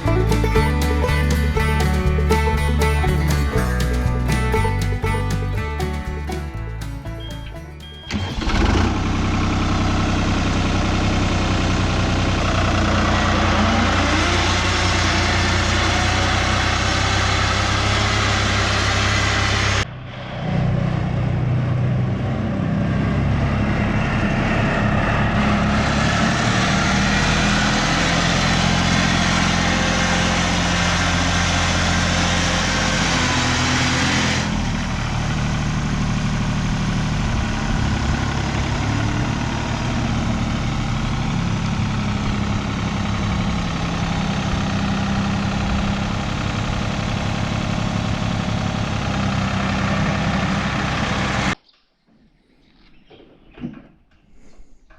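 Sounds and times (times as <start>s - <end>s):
vehicle engine idling: 0.0s - 20.2s, 20.8s - 51.6s.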